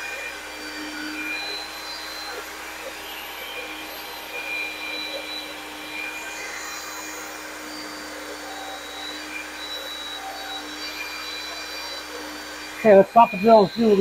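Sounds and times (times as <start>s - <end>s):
power drill running: 0.0s - 14.0s.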